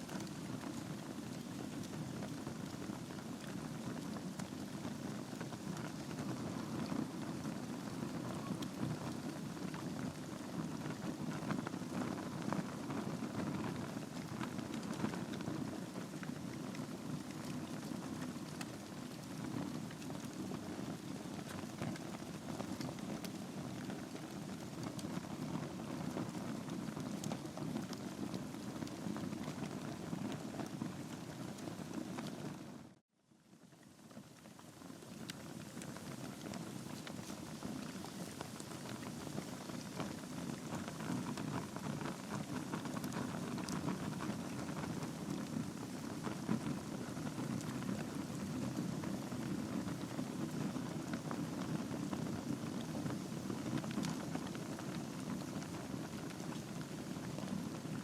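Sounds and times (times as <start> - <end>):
logs burning in fireplace: 0.0 - 33.0, 33.8 - 58.0
low rush of flames: 0.0 - 33.0, 33.9 - 58.0.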